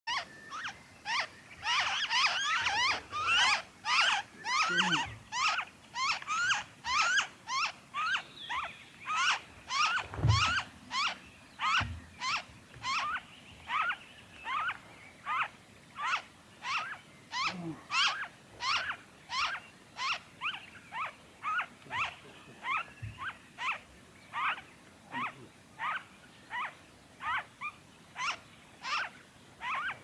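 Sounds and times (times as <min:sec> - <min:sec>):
nestlings begging calls: 0:00.1 - 0:30.0.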